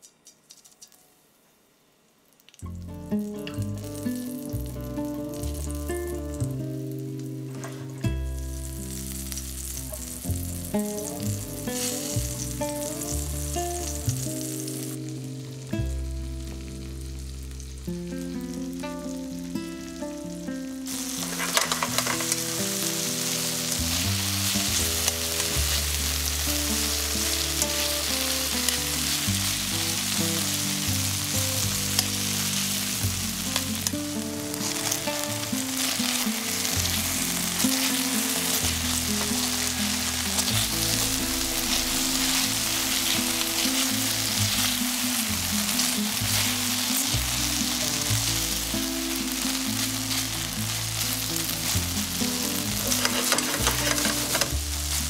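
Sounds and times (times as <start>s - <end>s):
meat sizzling in a frying pan: 2.5s - 55.0s.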